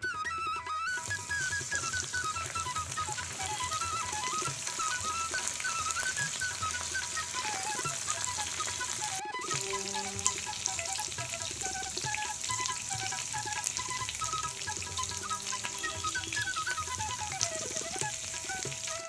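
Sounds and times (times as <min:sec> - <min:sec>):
soft instrumental music: 0:00.0 - 0:19.0
food sizzling in hot oil: 0:01.0 - 0:19.0.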